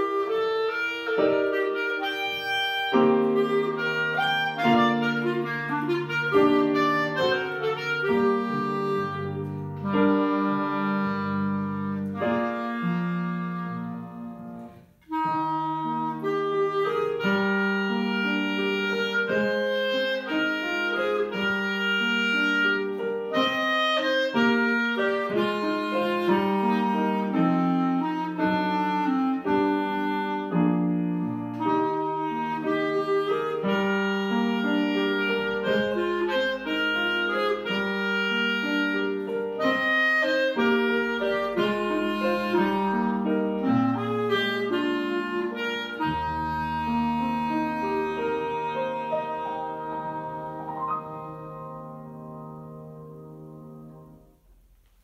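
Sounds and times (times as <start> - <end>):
clarinet melody: 0.0 - 55.0
piano accompaniment: 0.0 - 55.0.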